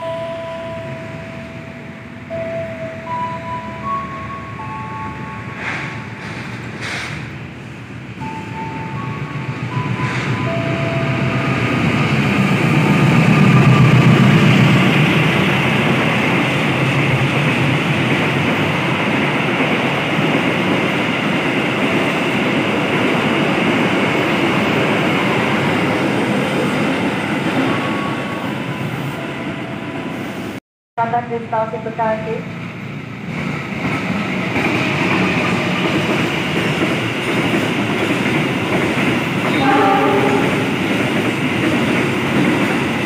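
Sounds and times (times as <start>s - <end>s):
diesel locomotive passing: 0.0s - 43.0s
train wheels rushing on rails: 4.6s - 30.6s, 32.4s - 43.0s.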